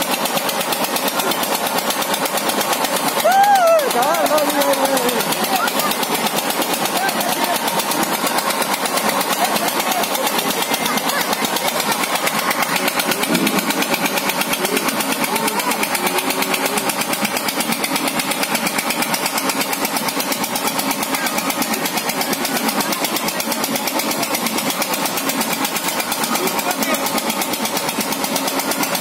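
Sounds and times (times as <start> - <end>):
motor running with fast pulse: 0.0 - 29.0.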